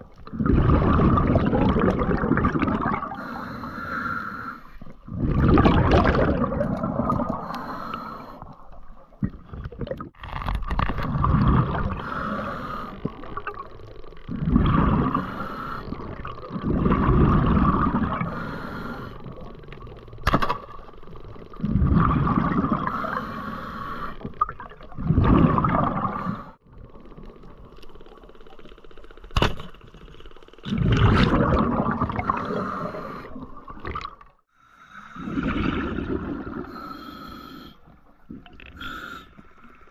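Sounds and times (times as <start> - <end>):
underwater water noise: 0.0 - 39.9.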